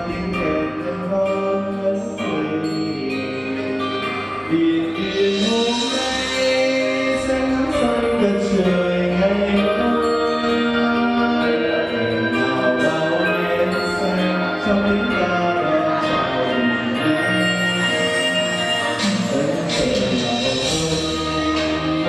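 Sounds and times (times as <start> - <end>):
amplified backing music: 0.0 - 22.0
man singing into microphone: 0.0 - 22.0.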